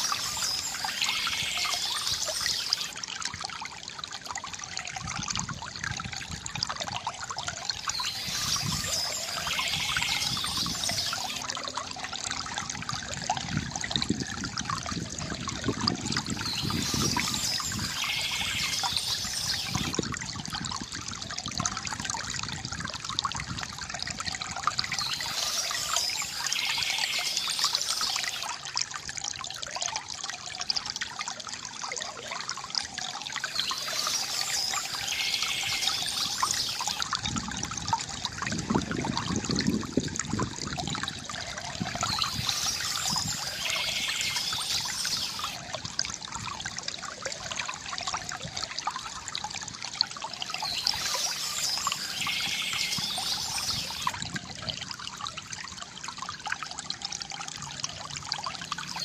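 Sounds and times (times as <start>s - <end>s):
deeper rush of water: 0.0s - 59.0s
stream trickling over stones: 0.0s - 59.0s.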